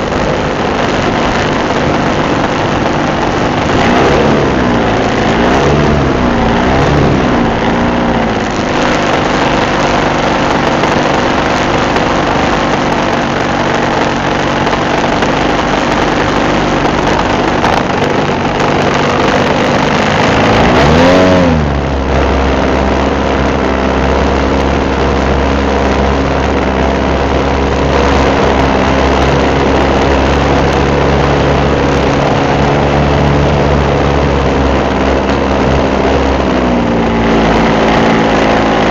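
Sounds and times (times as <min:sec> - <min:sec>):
model airplane engine and propeller: 0:00.0 - 0:38.9
rush of air: 0:00.0 - 0:38.9.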